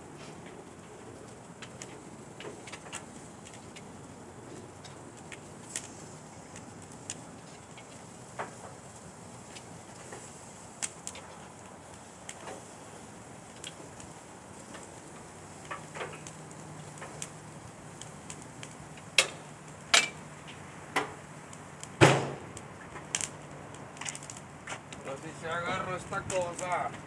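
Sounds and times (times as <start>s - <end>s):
bonfire crackling: 0.0s - 27.0s
sharp pops of fire: 0.0s - 27.0s.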